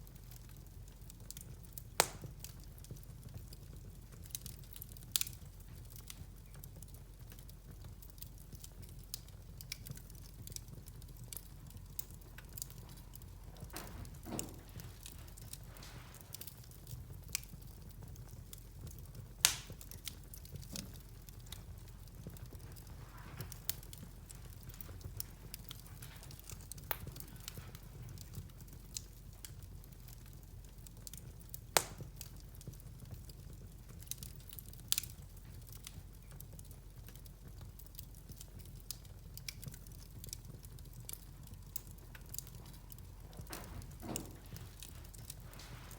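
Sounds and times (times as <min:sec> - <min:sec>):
wood fire crackling: 0:00.0 - 0:45.9
fire pops and snaps: 0:00.1 - 0:45.9.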